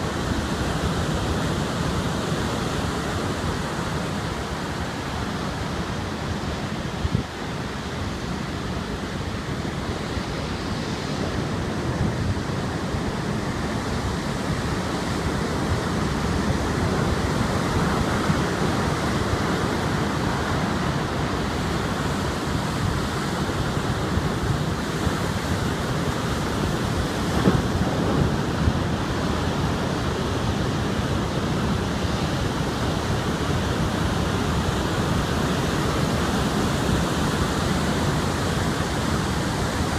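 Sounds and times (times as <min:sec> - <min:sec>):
storm surf breaking: 0:00.0 - 0:39.9
wind buffeting microphone: 0:00.0 - 0:39.9.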